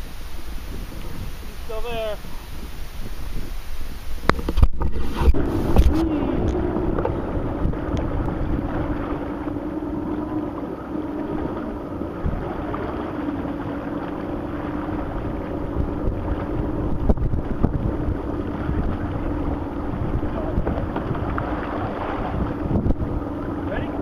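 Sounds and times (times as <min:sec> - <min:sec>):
jet ski engine running: 0:00.0 - 0:24.0.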